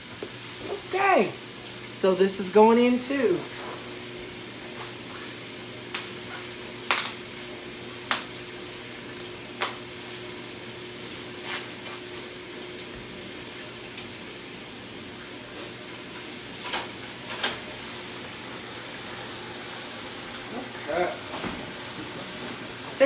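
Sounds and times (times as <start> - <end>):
meat sizzling in a pot: 0.0 - 23.0.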